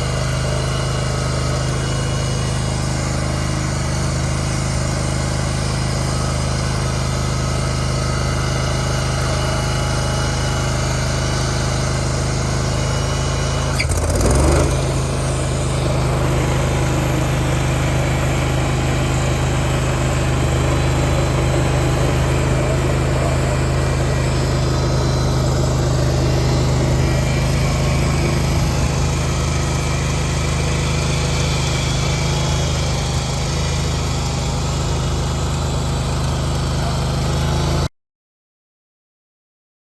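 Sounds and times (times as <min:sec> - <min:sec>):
stump grinder engine running: 0:00.0 - 0:37.9.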